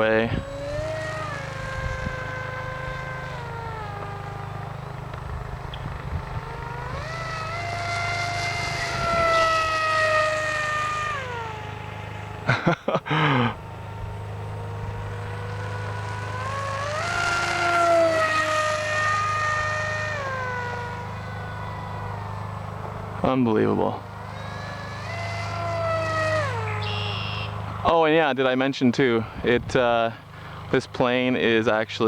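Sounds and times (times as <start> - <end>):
model plane motor whining: 0.0 - 28.3, 28.9 - 32.0.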